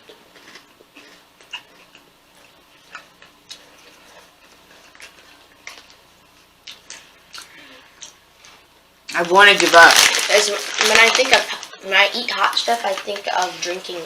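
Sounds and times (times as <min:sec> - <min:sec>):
snack chips being chewed: 0:00.0 - 0:13.6.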